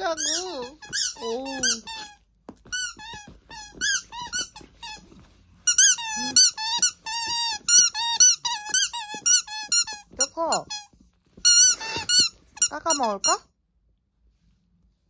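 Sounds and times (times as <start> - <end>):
squeaky rubber toy squeaks: 0.0 - 13.4.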